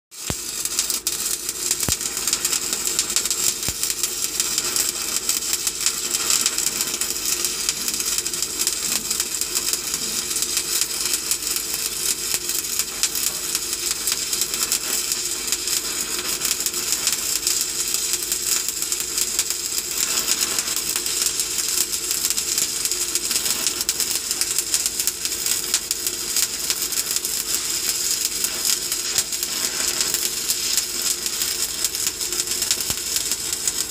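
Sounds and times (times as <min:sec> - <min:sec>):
welding arc crackling: 0:00.1 - 0:33.9.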